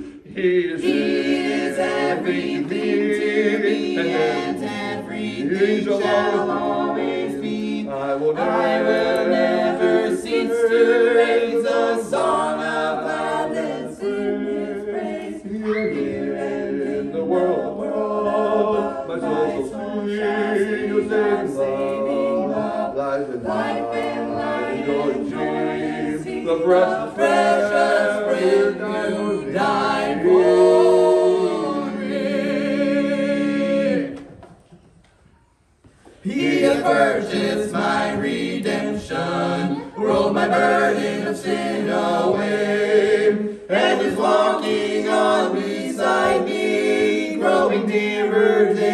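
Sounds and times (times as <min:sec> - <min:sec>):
vocal group singing a cappella: 0:00.0 - 0:34.4, 0:36.0 - 0:48.9.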